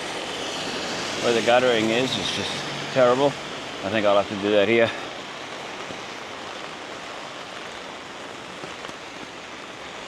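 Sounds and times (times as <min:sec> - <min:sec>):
rain on an umbrella: 0:00.0 - 0:10.0.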